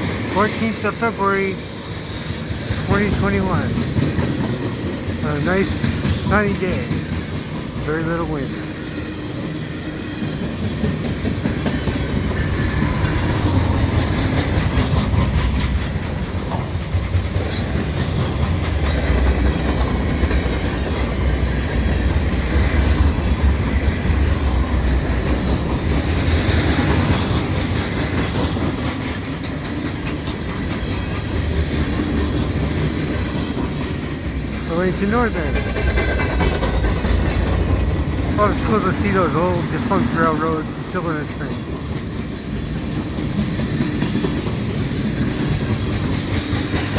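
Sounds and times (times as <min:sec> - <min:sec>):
freight train rumbling: 0:00.0 - 0:46.9
wheels clicking over rail joints: 0:00.0 - 0:46.9.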